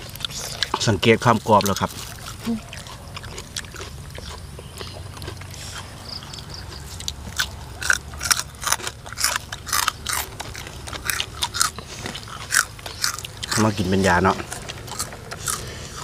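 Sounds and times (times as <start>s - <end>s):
crunching and chewing crisp food: 0.0s - 16.0s.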